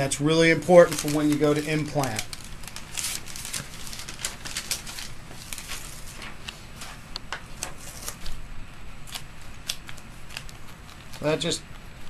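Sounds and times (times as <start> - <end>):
adhesive film crinkling: 0.0 - 12.0.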